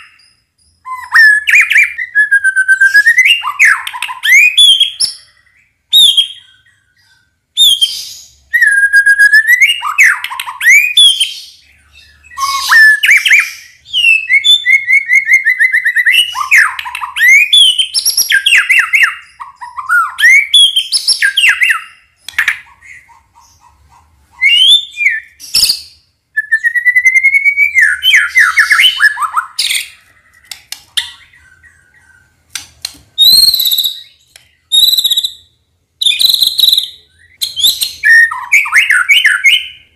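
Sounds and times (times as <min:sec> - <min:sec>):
bird singing whistled song: 0:00.0 - 0:23.1, 0:24.3 - 0:32.3, 0:33.2 - 0:39.9.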